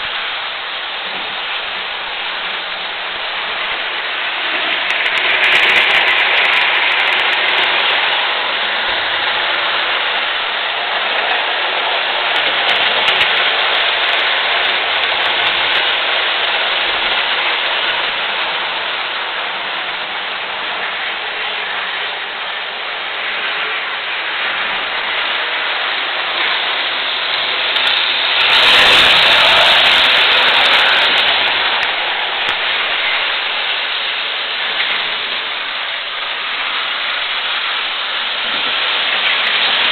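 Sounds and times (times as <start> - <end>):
model trains rattling on track: 0.0 - 39.9.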